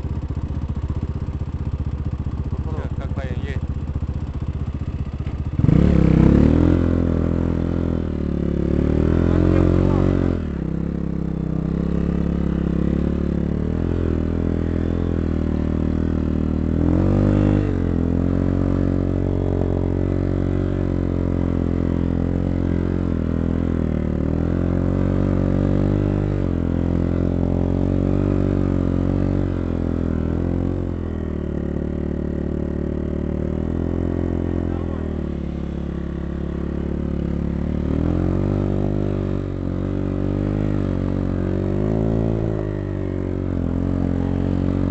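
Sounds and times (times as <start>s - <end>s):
dirt bike engine revving: 4.7s - 44.9s.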